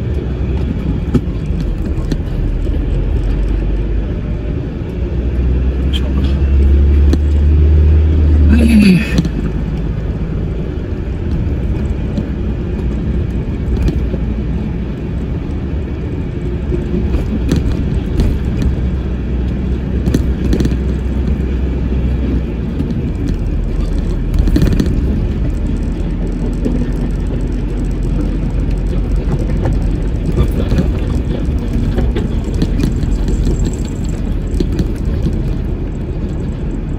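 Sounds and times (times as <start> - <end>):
truck engine drone: 0.0 - 36.9.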